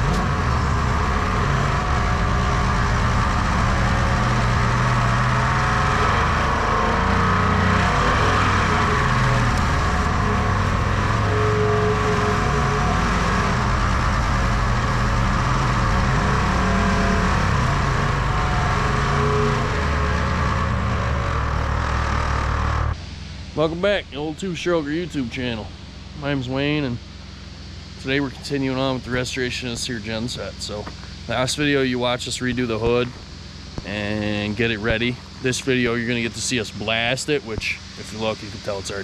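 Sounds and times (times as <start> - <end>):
heavy engine running: 0.0 - 39.0.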